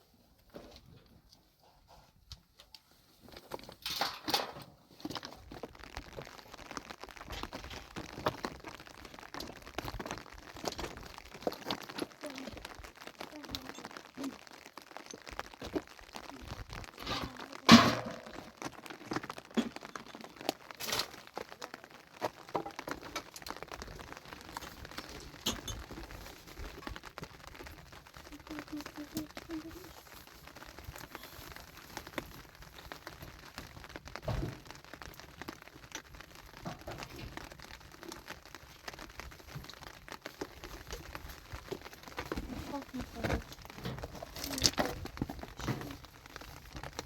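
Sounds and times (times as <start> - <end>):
objects crackling and knocking: 0.0 - 47.0.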